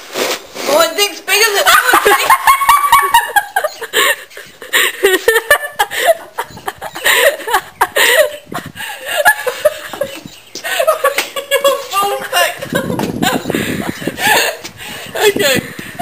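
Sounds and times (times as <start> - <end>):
woman laughing hard: 1.7 - 16.0.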